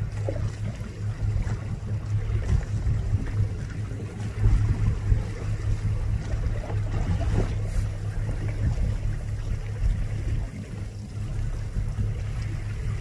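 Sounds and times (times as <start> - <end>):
boat engine rumbling: 0.0 - 13.0
wind noise on microphone: 1.2 - 13.0.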